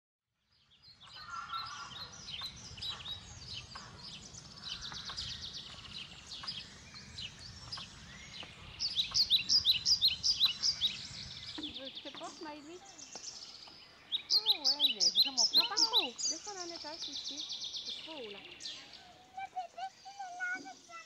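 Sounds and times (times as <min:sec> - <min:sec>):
songbirds singing: 0:00.4 - 0:21.0.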